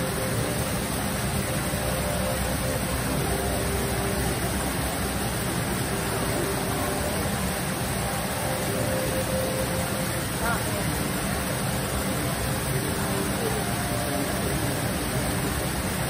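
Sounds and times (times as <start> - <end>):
steady hissing noise: 0.0 - 16.0.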